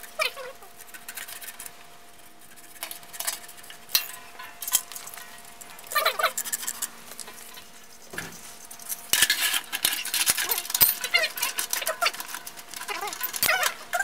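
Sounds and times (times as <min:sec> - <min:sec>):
metal frames clinking and scraping: 0:02.5 - 0:14.0.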